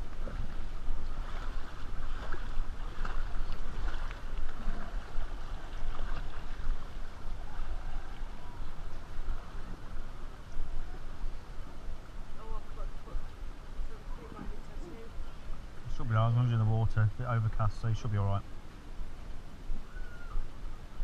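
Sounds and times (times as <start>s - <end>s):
water lapping and splashing: 0.0s - 21.0s.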